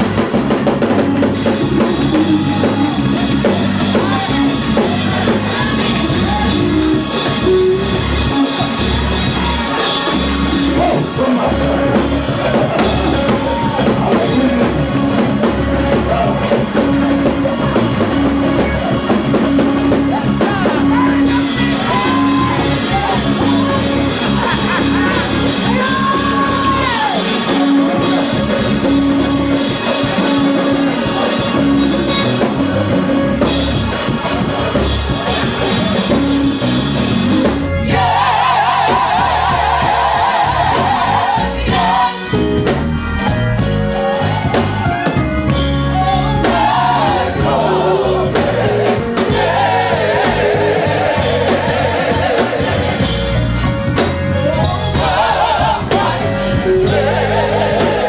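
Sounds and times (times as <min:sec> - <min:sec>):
band with drums: 0:00.0 - 0:58.0
voices singing gospel: 0:00.0 - 0:58.0.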